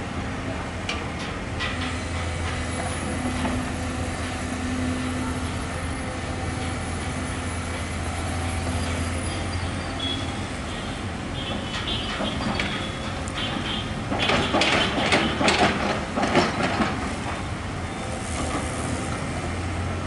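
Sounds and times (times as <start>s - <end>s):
excavator diesel engine droning: 1.7s - 20.0s.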